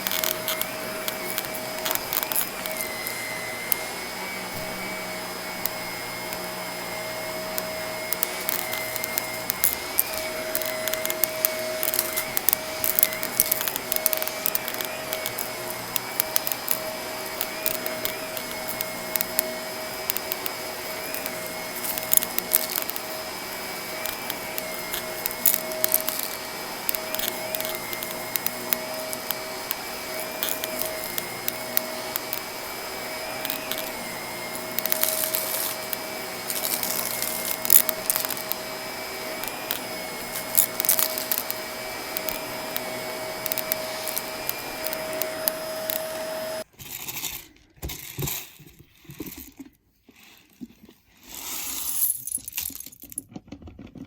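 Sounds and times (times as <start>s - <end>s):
vacuum cleaner whining: 0.0s - 46.7s.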